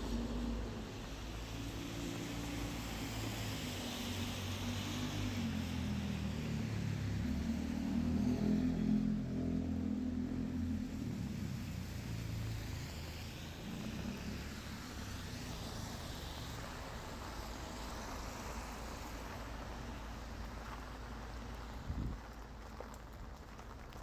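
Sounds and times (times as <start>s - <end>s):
steady rain: 0.0s - 8.1s, 9.8s - 24.0s
car engine hum passing: 0.0s - 24.0s.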